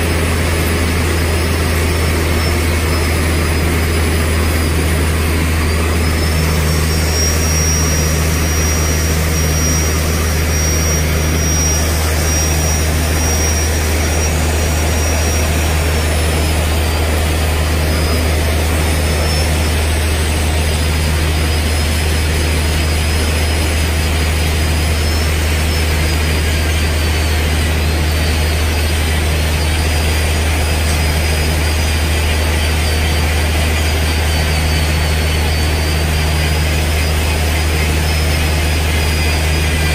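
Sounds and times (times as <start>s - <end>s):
electric grinder whining: 0.0s - 39.9s.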